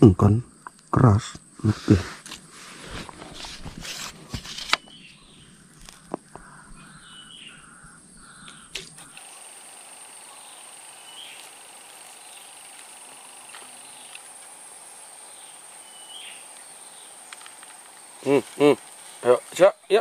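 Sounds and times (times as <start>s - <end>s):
crickets chirping: 0.0s - 20.0s
high insect hum: 0.0s - 20.0s.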